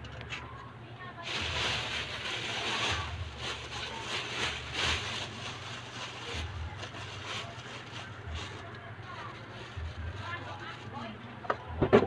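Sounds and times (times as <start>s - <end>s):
plastic bag crinkling: 1.1s - 11.3s.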